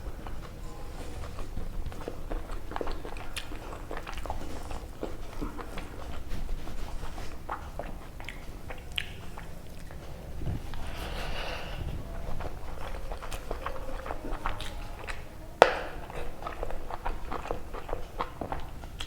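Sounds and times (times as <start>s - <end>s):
low background hum: 0.0s - 19.0s
wet chewing and lip smacks: 0.0s - 19.0s.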